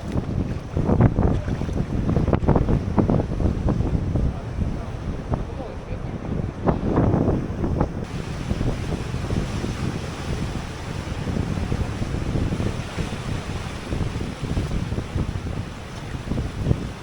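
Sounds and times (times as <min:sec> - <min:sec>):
ocean surf washing: 0:00.0 - 0:17.0
wind buffeting microphone: 0:00.0 - 0:17.0.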